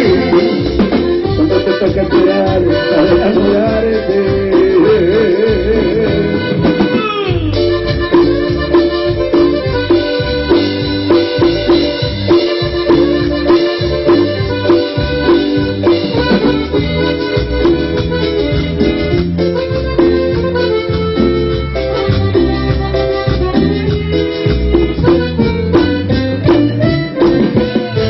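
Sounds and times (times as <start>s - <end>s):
accordion music with steady beat: 0.0s - 28.0s.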